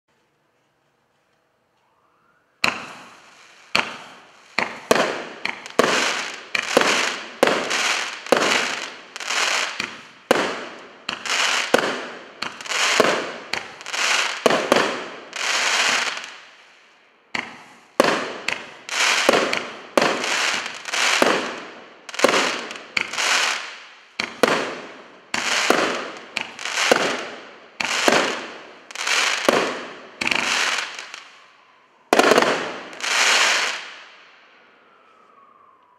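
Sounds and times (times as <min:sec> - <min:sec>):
fireworks bangs: 0:02.6 - 0:16.6, 0:17.3 - 0:34.2.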